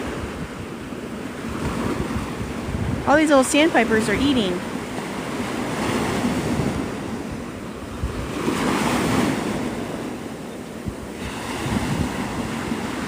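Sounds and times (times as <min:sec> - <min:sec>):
surf washing up on beach: 0:00.0 - 0:13.0
wind buffeting microphone: 0:00.0 - 0:13.0.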